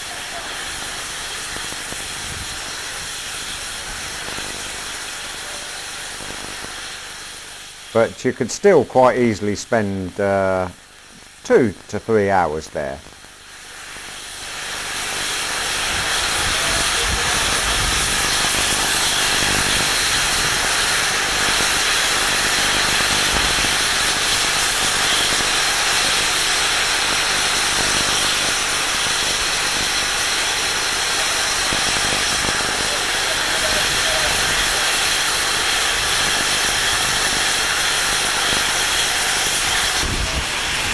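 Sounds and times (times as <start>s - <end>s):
steam hissing: 0.0s - 40.9s.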